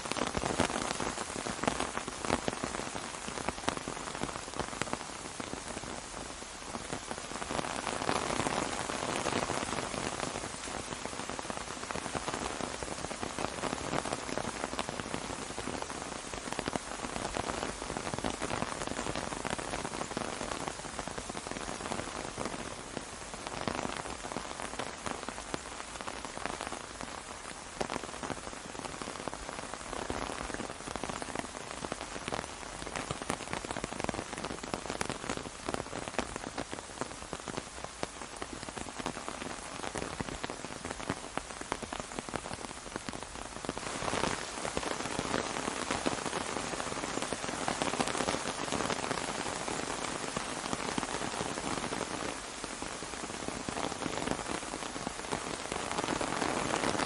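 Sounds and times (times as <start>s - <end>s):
rain falling on an umbrella: 0.0s - 57.0s.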